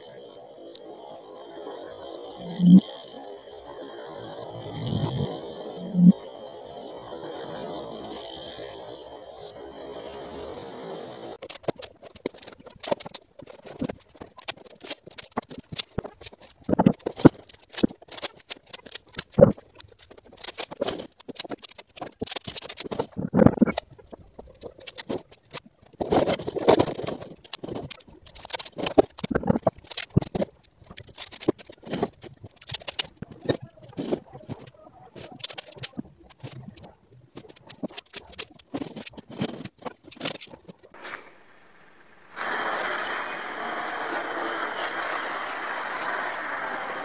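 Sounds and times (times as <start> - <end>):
marble rolling through plastic tube: 0.2 - 41.0.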